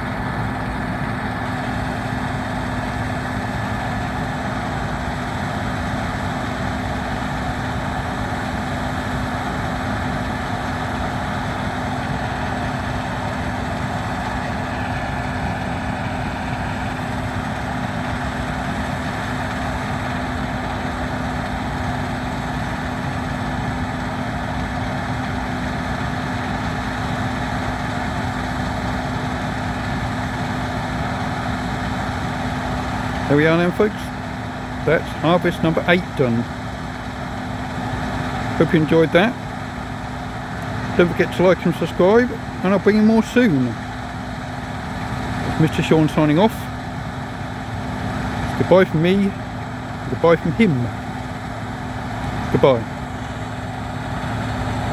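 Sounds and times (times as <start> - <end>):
combine harvester drone: 0.0 - 54.9
steady machine whine: 0.0 - 54.9.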